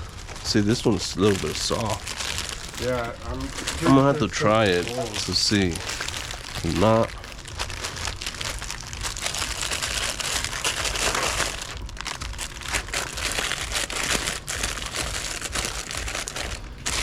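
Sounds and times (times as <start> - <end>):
plastic wrappers crinkling: 0.0 - 17.0.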